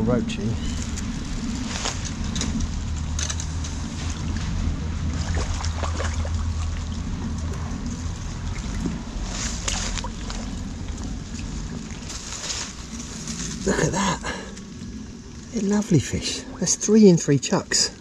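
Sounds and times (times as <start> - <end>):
low rumble: 0.0 - 18.0
water sloshing and splashing: 0.8 - 17.4.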